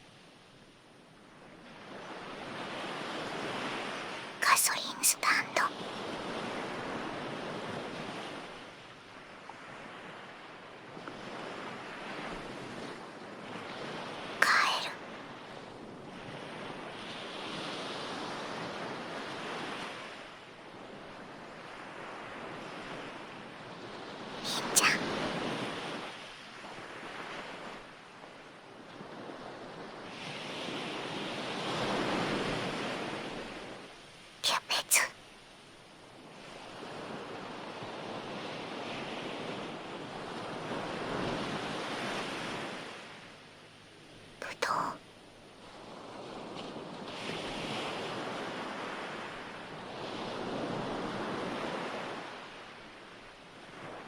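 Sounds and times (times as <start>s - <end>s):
ocean waves washing on shore: 0.0s - 34.4s, 35.3s - 54.0s.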